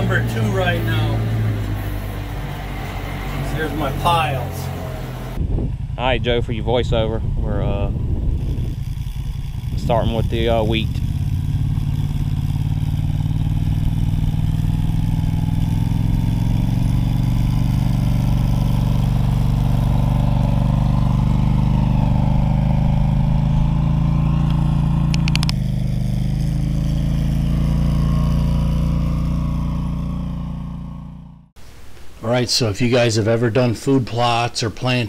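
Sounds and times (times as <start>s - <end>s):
quad bike engine running: 0.0s - 31.5s.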